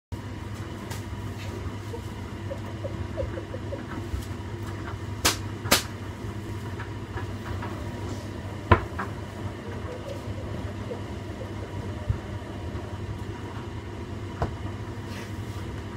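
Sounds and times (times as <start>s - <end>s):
washing machine humming: 0.1s - 15.9s.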